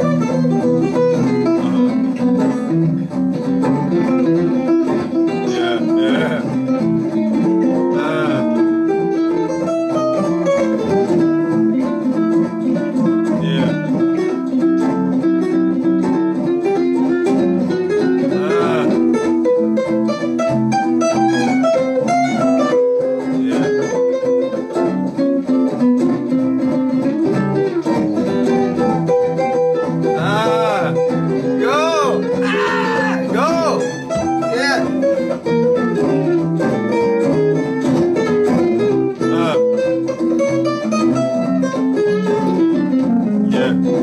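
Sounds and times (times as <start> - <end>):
jazz guitar duet: 0.0 - 44.0.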